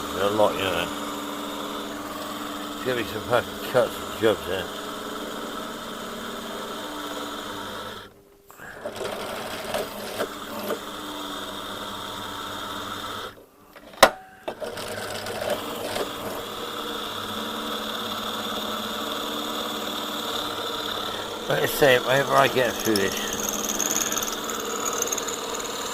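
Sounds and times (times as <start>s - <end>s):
electric drill on metal: 0.0s - 13.4s, 14.5s - 25.9s.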